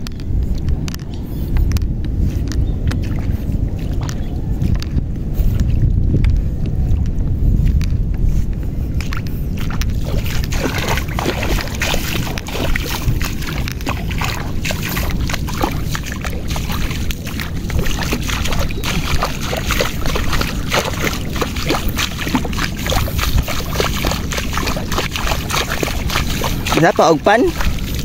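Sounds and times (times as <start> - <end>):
feet splashing in shallow water: 0.0 - 7.0, 7.6 - 28.0
wind rumble on microphone: 0.0 - 28.0.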